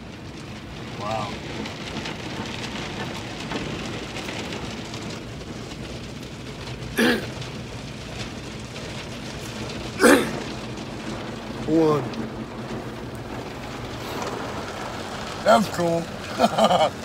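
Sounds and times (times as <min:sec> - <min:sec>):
car wash water spray: 0:00.0 - 0:17.0.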